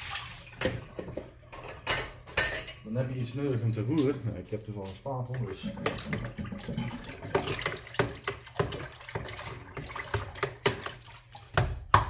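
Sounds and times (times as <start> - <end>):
water sloshing in plastic bucket: 0.0 - 1.4, 3.4 - 12.0.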